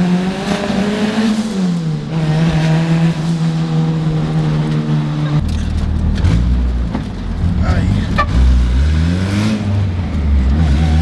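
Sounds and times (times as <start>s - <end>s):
car engine running: 1.8s - 11.0s.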